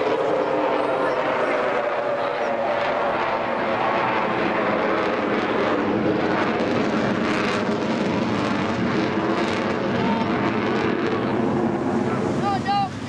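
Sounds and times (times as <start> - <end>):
loud jet roar: 0.0 - 13.0.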